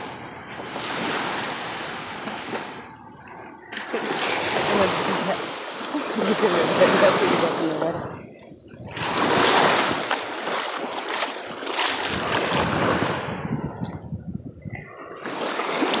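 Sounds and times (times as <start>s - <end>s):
surf washing over shallows: 0.0s - 16.0s.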